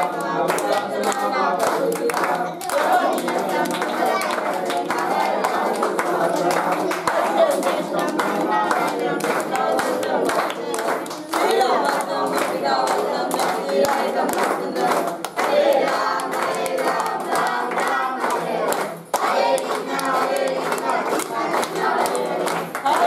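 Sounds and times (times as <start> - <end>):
group singing: 0.0 - 23.0
people clapping in time: 0.0 - 23.0.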